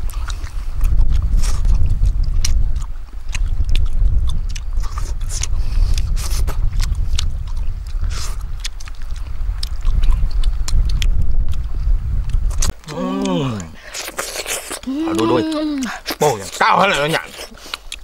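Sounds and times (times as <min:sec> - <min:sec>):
man chewing with mouth clicks: 0:00.0 - 0:18.0
steady low rumble: 0:00.0 - 0:18.0.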